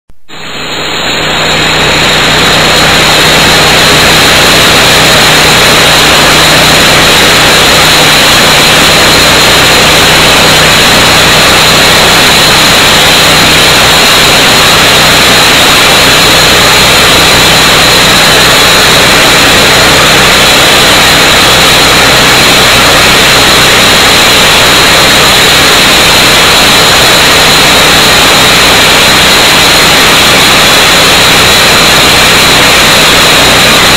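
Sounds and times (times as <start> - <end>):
concrete saw hissing: 0.4 - 33.9.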